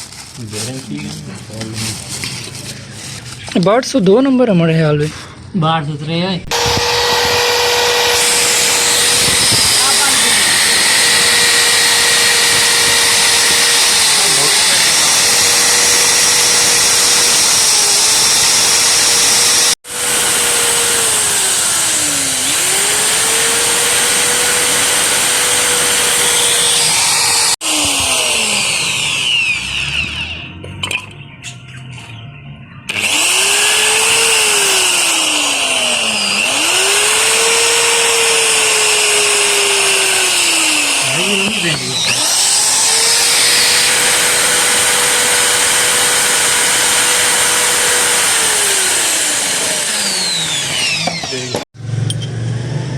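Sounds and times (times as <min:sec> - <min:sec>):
power tool motor whine: 0:06.5 - 0:30.5, 0:32.9 - 0:51.7.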